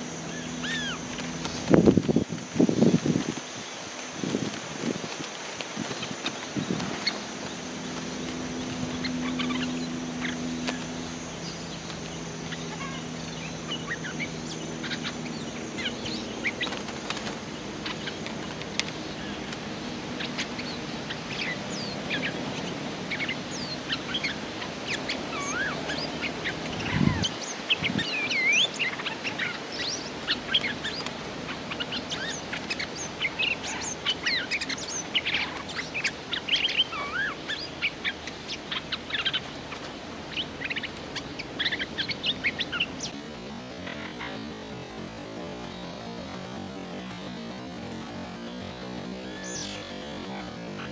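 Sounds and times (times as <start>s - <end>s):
birds chirping and whistling: 0.0s - 3.7s, 5.8s - 50.9s
low hum: 0.0s - 50.9s.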